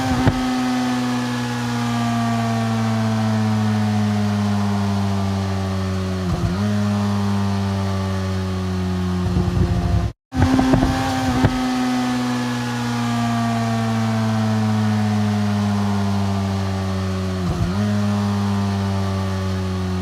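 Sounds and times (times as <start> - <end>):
motorcycle engine decelerating: 0.0 - 20.0.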